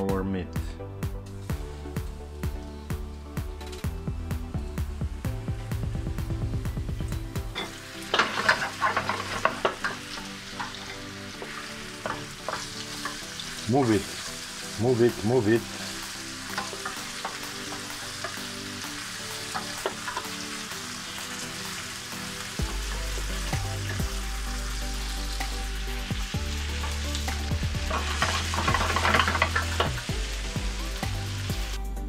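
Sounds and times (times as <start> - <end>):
meat sizzling in oil: 4.8 - 31.8.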